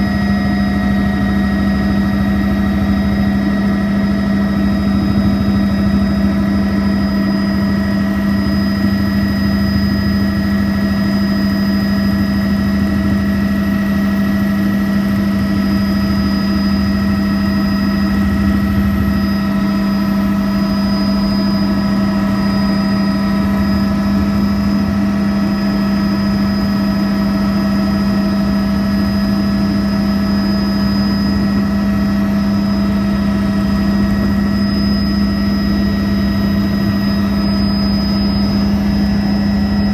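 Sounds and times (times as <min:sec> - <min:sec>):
helicopter engine and rotor drone: 0:00.0 - 0:39.9
helicopter high whines: 0:00.0 - 0:39.9.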